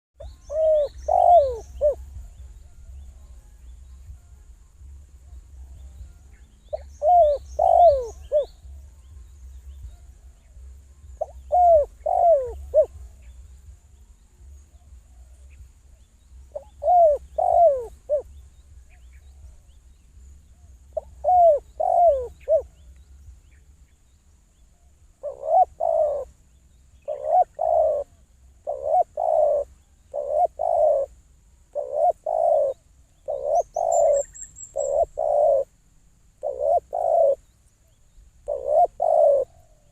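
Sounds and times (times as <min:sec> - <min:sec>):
dove cooing: 0:00.2 - 0:03.6, 0:05.2 - 0:08.9, 0:09.8 - 0:13.4, 0:14.7 - 0:19.8, 0:20.5 - 0:22.9, 0:24.7 - 0:35.8, 0:36.4 - 0:39.9.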